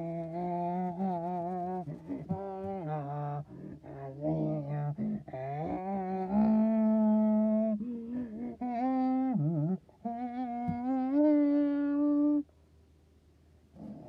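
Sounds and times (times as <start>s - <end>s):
person humming: 0.0s - 12.5s, 13.8s - 14.0s.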